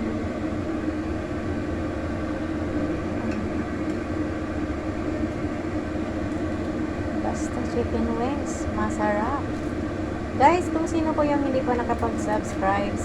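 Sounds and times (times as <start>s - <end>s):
mechanical drone with low hum: 0.0s - 13.0s.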